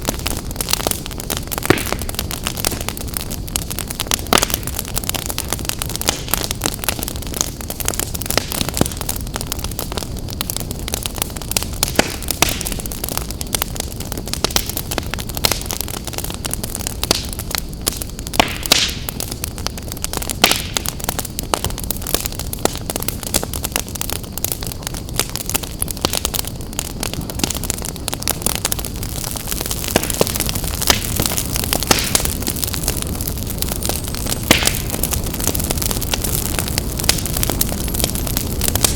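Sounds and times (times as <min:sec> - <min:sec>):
fire flames rumbling: 0:00.0 - 0:38.9
wood fire crackling and popping: 0:00.0 - 0:38.9.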